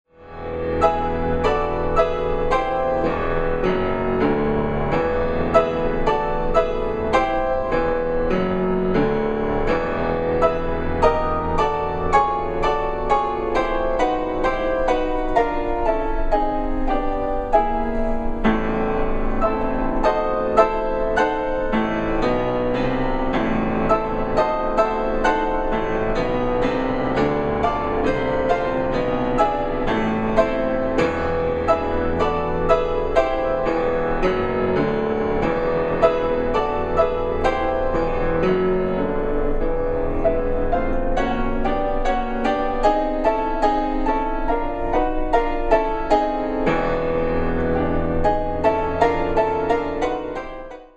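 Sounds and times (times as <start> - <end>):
piano music: 0.1 - 50.9.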